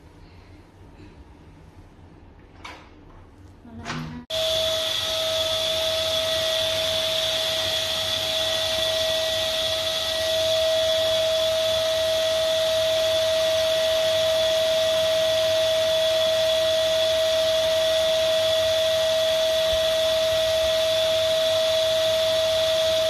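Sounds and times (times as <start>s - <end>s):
vacuum cleaner motor whining: 4.3s - 23.0s.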